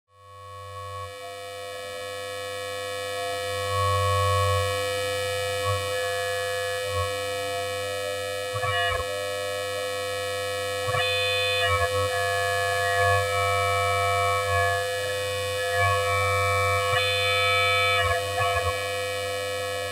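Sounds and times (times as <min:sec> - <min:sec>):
synth drone: 0:00.4 - 0:19.9.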